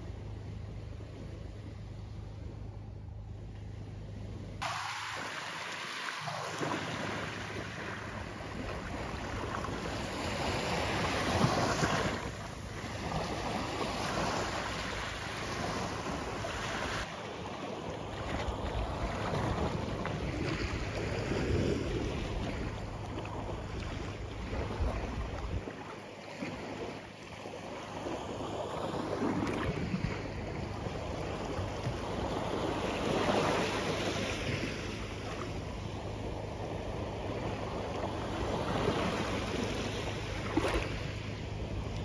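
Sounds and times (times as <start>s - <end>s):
wind: 0.0s - 42.0s
flowing water: 4.6s - 42.0s.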